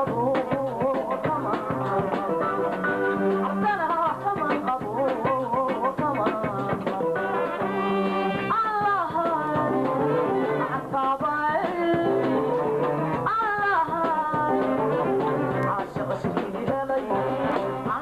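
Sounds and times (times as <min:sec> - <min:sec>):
band with drums: 0:00.0 - 0:18.0
woman singing: 0:00.0 - 0:18.0.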